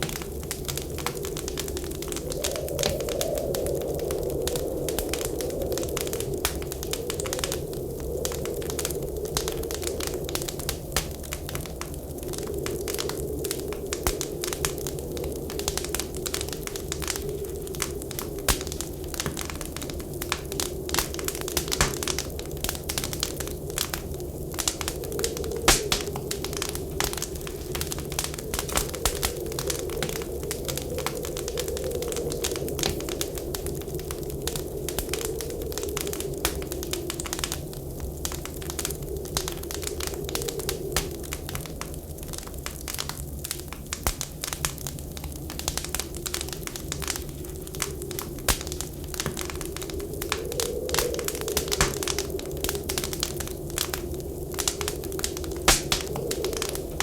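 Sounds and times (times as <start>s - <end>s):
low wind noise: 0.0s - 57.0s
wood fire crackling in stove: 0.0s - 57.0s.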